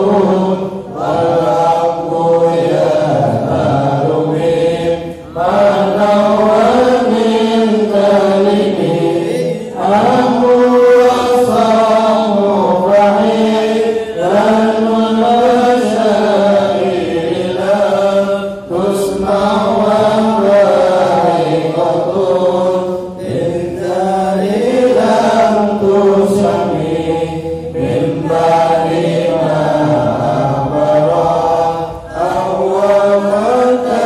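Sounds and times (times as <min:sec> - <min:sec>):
voices chanting: 0:00.0 - 0:34.0.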